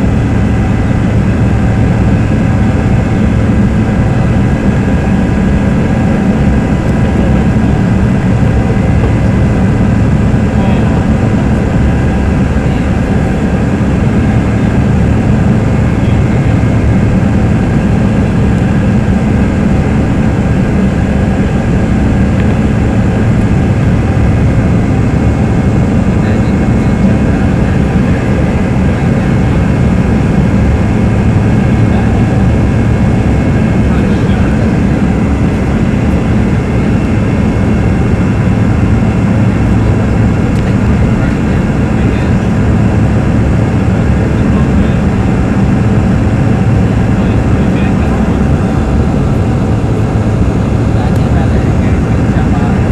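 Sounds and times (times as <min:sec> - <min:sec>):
faint jet engine whine: 0:00.0 - 0:52.9
low aircraft cabin rumble: 0:00.0 - 0:52.9.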